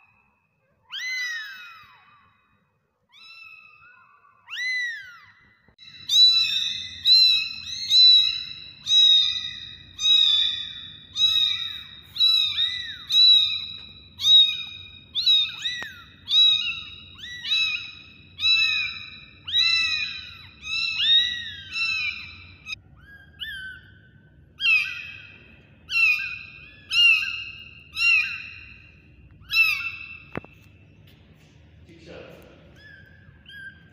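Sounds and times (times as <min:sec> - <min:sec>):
kittens meowing: 0:00.8 - 0:02.5, 0:03.1 - 0:30.8, 0:32.3 - 0:33.9.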